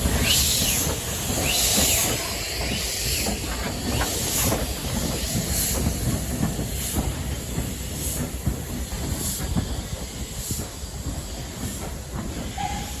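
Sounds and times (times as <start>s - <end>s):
hiss of steam: 0.0s - 13.0s
steam locomotive exhaust puffs: 0.0s - 13.0s
train rumbling on rails: 0.0s - 13.0s.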